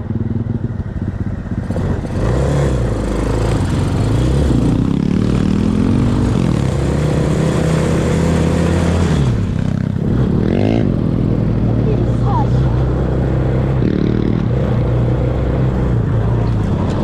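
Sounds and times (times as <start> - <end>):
off-road vehicle engine revving: 1.6 - 17.0.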